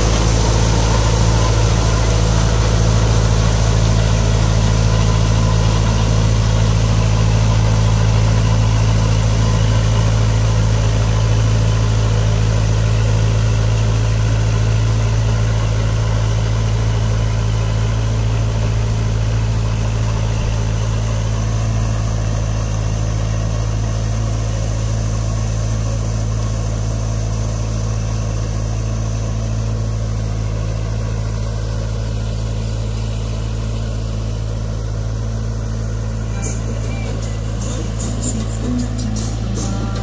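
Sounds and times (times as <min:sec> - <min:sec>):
tractor diesel engine hum: 0:00.0 - 0:40.0.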